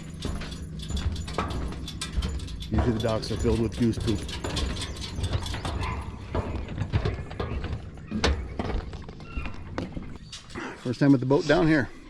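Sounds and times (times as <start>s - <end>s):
footsteps on wooden dock: 0.0s - 10.2s
steady low rumble: 0.0s - 10.2s.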